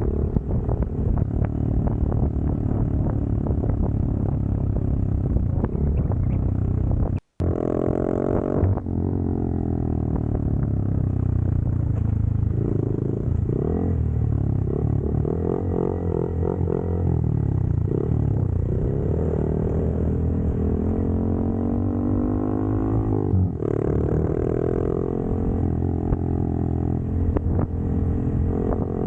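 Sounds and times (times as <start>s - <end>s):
motorcycle engine droning: 0.0s - 29.0s.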